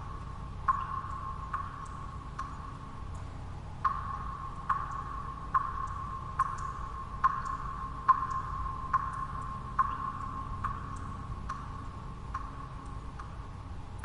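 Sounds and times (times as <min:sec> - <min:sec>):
steady low noise: 0:00.0 - 0:14.0
water drops plinking: 0:00.6 - 0:13.4.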